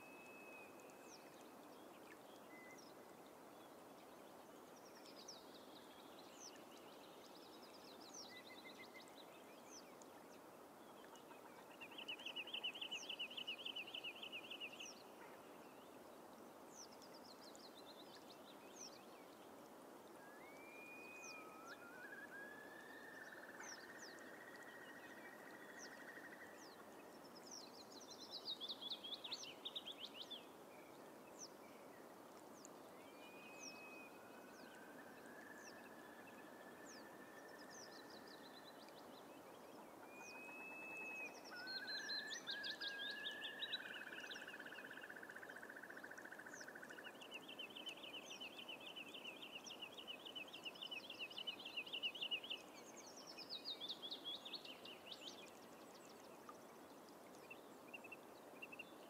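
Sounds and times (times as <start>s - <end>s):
steady soft hiss: 0.0s - 59.0s.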